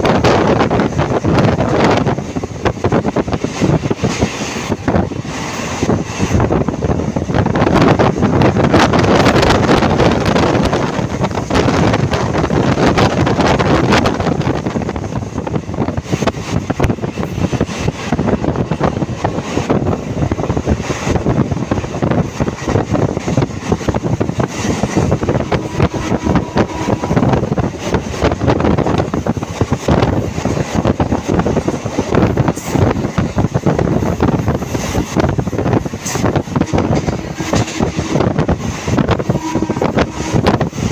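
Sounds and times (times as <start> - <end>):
train rumbling and rattling: 0.0 - 40.9
wind buffeting microphone: 0.0 - 40.9.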